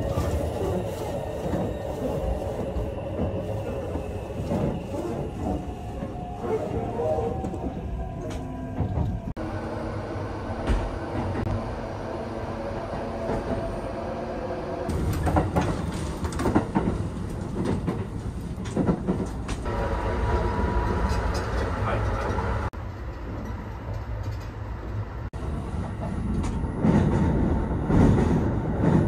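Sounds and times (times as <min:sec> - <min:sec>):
train interior low rumble: 0:00.0 - 0:29.0.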